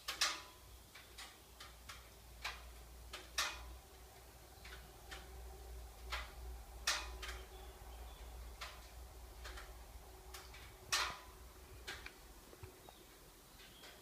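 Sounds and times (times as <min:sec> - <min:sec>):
cooling car engine clicking: 0:00.0 - 0:12.8
faint low hum: 0:00.0 - 0:14.0.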